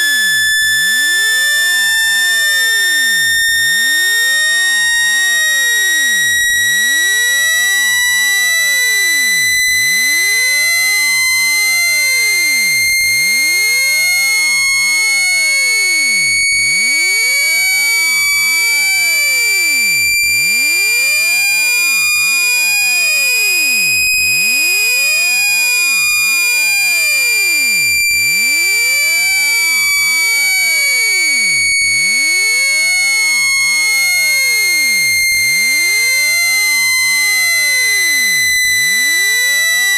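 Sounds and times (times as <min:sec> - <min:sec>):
continuous high-pitched tone: 0:00.0 - 0:39.9.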